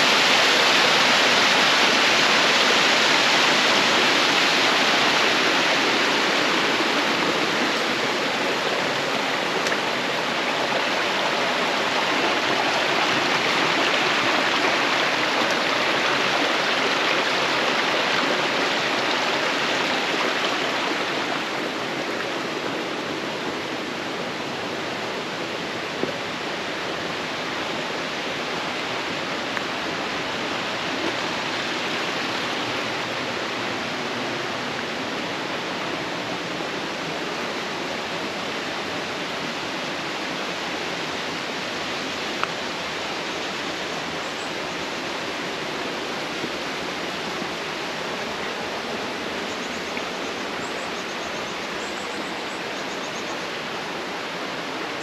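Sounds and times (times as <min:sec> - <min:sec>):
stream and waterfall rushing: 0:00.0 - 0:55.0.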